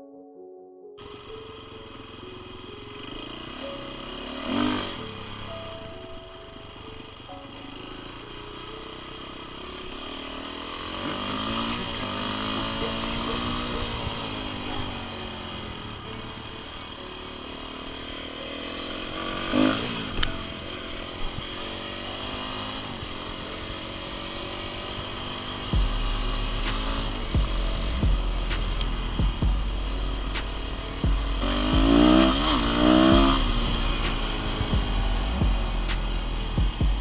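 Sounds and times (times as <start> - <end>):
dirt bike engine revving: 1.6 - 5.6, 6.7 - 37.0.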